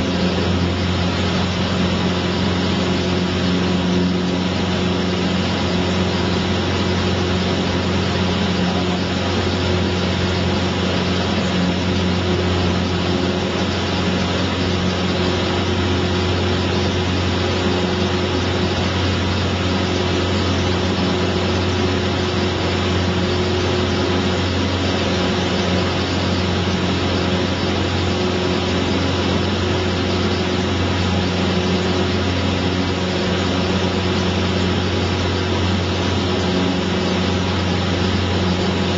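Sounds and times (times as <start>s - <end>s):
propeller aircraft engine droning: 0.0s - 38.9s.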